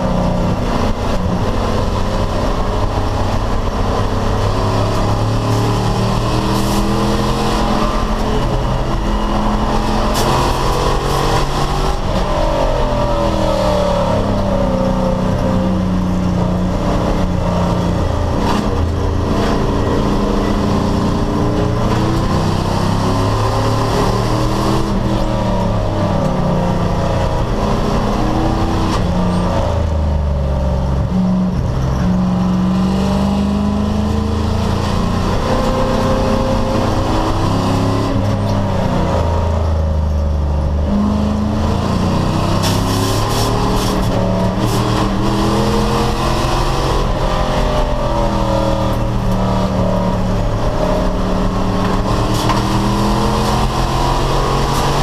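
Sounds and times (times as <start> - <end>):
racing car engine revving: 0.0 - 55.0.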